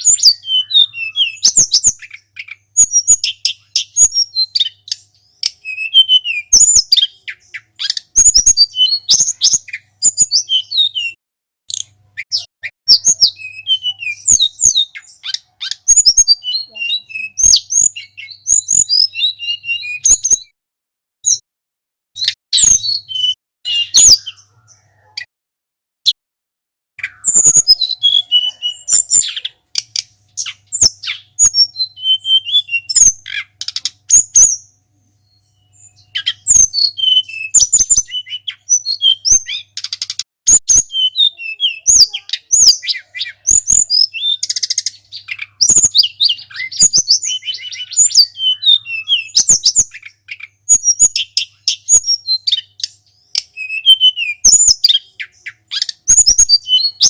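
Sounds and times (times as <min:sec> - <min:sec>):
songbird chirping and trilling: 0:00.0 - 0:20.6, 0:22.2 - 0:25.3, 0:27.0 - 0:57.0.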